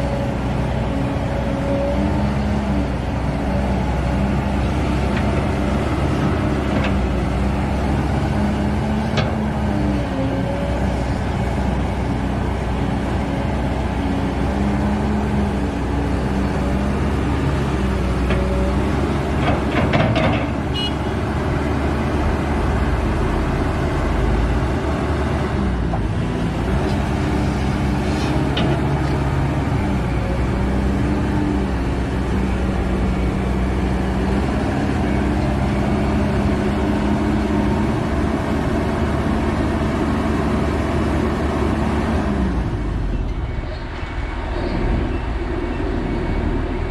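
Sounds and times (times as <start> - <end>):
excavator diesel engine under load: 0.0 - 46.9.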